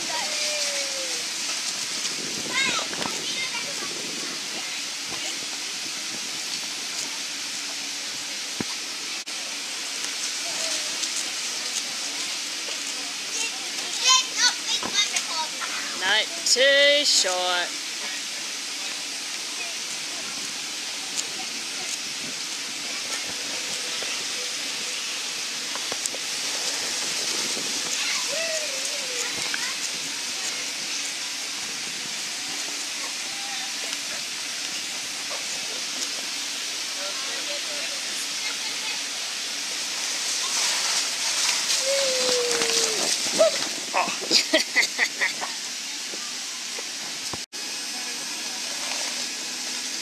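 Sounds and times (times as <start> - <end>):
water spraying on slide: 0.0 - 50.0.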